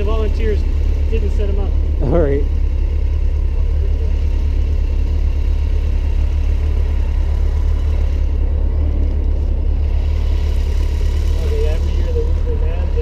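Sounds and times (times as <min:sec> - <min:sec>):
motorcycle engines idling: 0:00.0 - 0:13.0.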